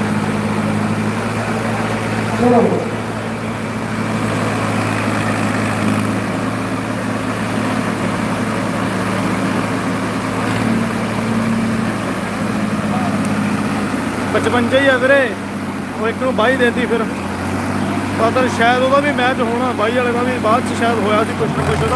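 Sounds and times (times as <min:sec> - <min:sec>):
tractor diesel engines humming: 0:00.0 - 0:21.9.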